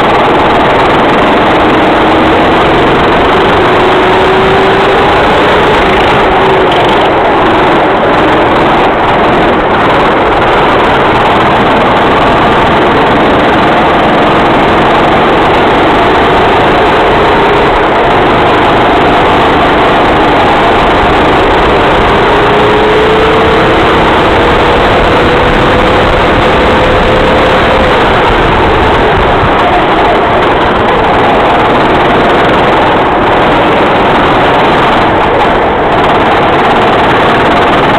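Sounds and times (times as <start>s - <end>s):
kart engine running hard: 0.0s - 37.9s.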